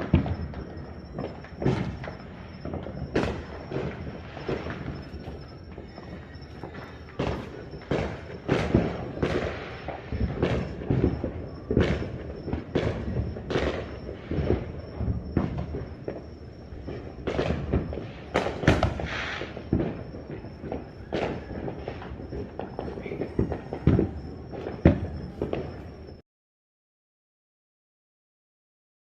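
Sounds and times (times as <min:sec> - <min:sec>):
fireworks bangs and crackles: 0:00.0 - 0:26.2.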